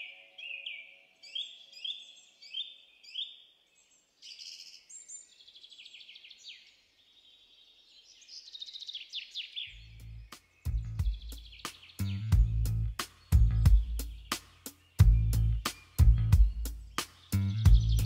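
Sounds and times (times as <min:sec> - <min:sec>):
small birds singing: 0:00.0 - 0:18.0.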